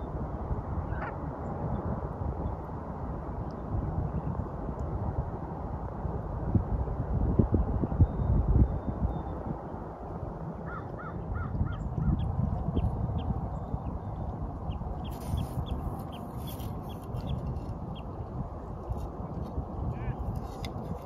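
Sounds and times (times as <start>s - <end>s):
wind rumble: 0.0s - 21.0s.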